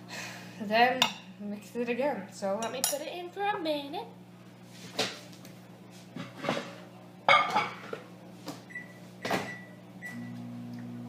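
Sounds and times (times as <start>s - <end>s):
microwave running hum: 0.0s - 11.0s.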